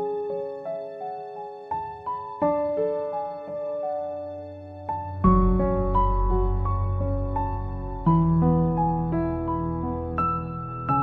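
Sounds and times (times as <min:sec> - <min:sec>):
soft instrumental background music: 0:00.0 - 0:11.0.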